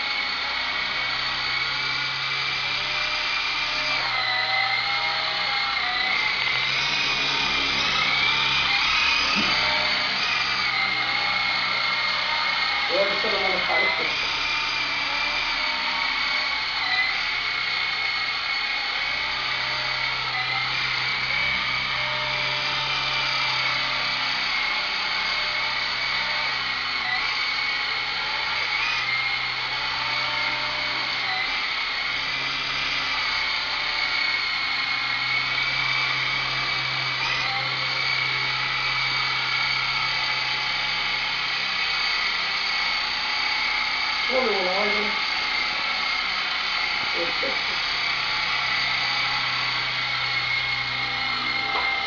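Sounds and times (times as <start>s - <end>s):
toy helicopter motor whining: 0.0s - 52.0s.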